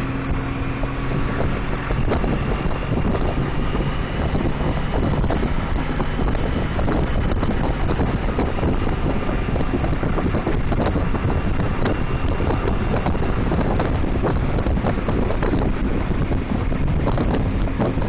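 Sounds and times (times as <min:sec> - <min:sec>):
motorcycle engine drone: 0:00.0 - 0:18.0
wind buffeting microphone: 0:00.0 - 0:18.0.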